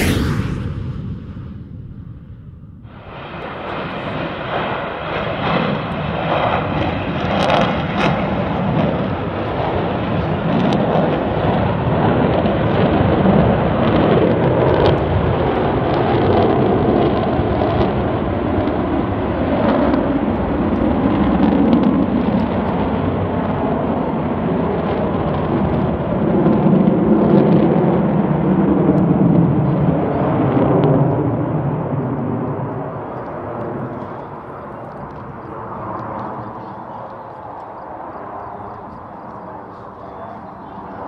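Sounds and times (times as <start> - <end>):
jet engines roaring overhead: 0.0 - 41.0.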